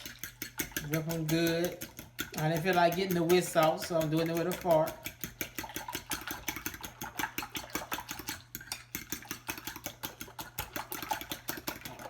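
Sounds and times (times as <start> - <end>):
fork whisking eggs in bowl: 0.0 - 12.0.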